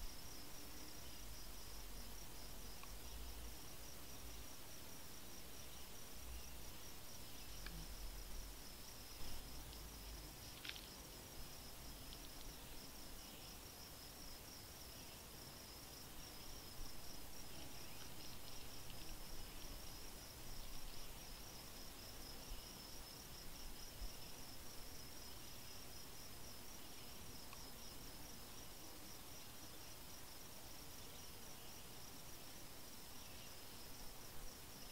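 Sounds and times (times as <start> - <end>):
insect pulsing chirp: 0.0 - 34.9.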